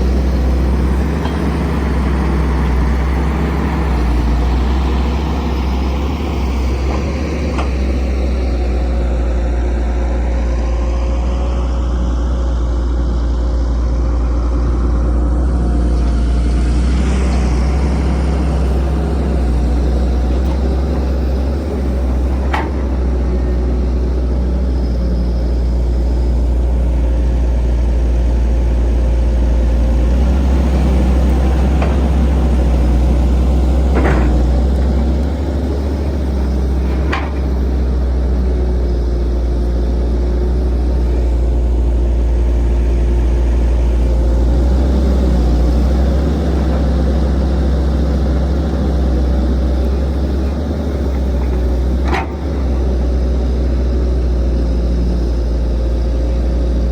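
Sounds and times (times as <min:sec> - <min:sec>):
heavy diesel engines running: 0:00.0 - 0:56.9.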